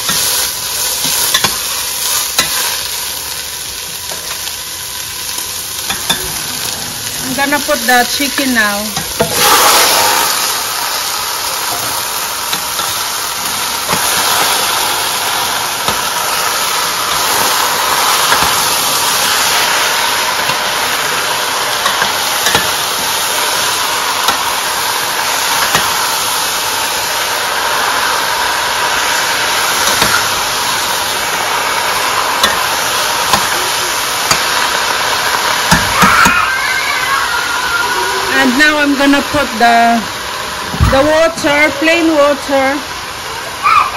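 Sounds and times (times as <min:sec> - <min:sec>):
chicken sizzling in oil: 0:00.0 - 0:43.9.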